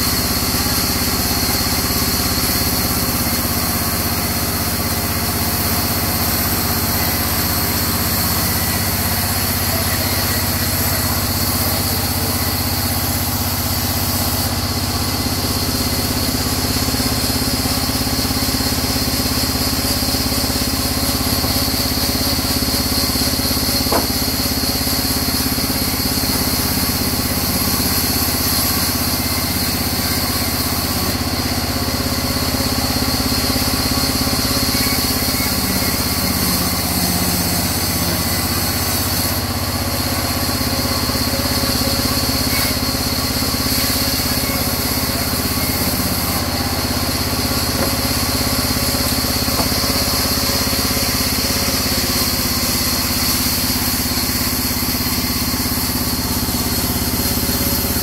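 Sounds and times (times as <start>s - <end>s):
band saw cutting through log: 0.0s - 58.0s.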